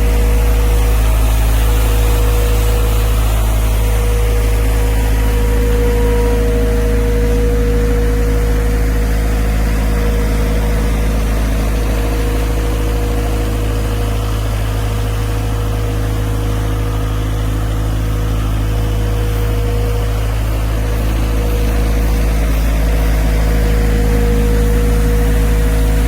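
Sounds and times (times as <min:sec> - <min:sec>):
constant whining tone: 0:00.0 - 0:26.0
machine humming: 0:00.0 - 0:26.0.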